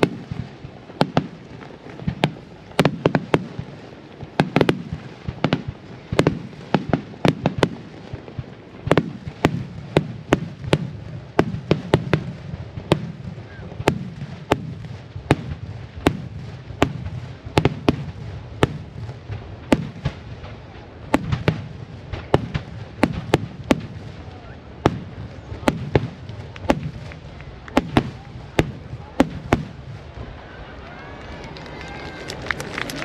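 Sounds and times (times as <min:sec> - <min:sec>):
fireworks bursting: 0:00.0 - 0:33.0.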